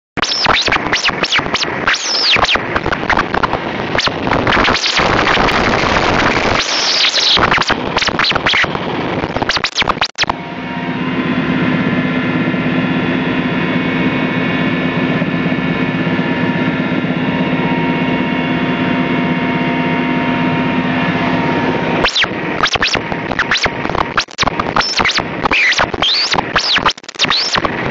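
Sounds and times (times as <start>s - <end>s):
helicopter cabin engine drone: 0.2s - 5.4s, 7.8s - 27.9s.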